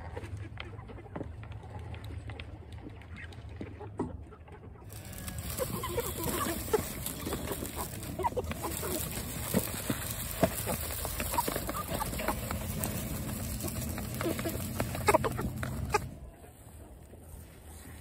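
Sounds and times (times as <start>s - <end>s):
chickens clucking softly: 0.0s - 18.0s.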